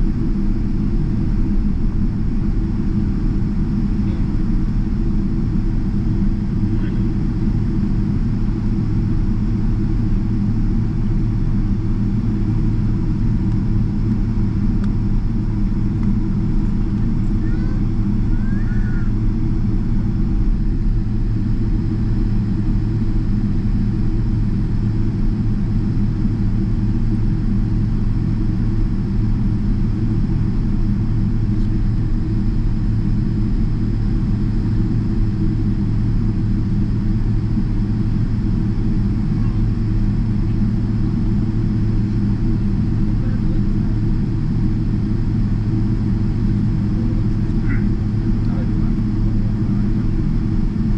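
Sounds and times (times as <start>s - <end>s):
low rumble in aircraft cabin: 0.0s - 50.9s.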